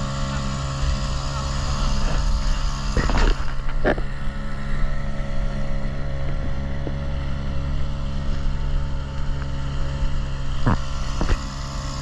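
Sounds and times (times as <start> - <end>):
motorboat engine humming: 0.0 - 12.0.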